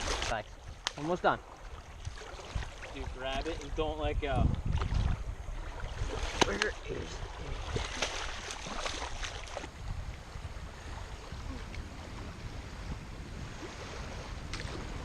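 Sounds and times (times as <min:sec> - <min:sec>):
water noise: 0:00.0 - 0:15.0
wind: 0:00.0 - 0:15.0
low rumble on microphone: 0:01.6 - 0:15.0.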